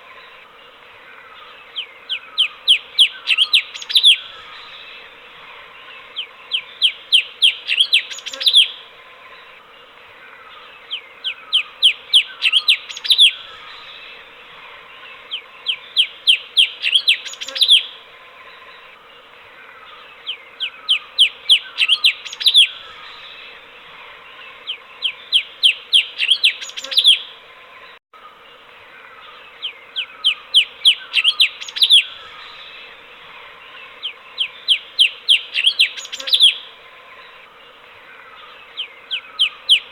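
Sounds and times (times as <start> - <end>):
bulbul chirping song: 0.0 - 5.1, 5.9 - 8.9, 10.5 - 14.3, 15.0 - 19.0, 19.8 - 23.6, 24.4 - 27.4, 28.5 - 39.9.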